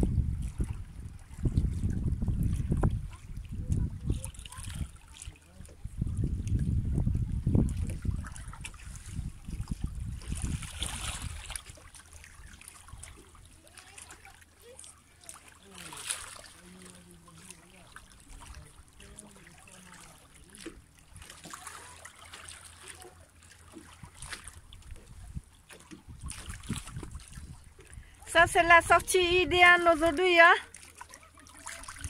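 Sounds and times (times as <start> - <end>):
little water splashes: 0.0 - 32.0
small waves lapping on rocks: 0.0 - 32.0.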